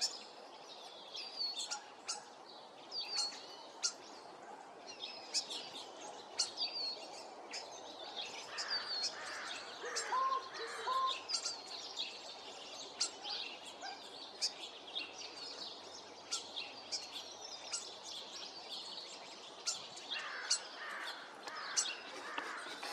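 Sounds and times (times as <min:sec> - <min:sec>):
small birds twittering: 0:00.0 - 0:22.9.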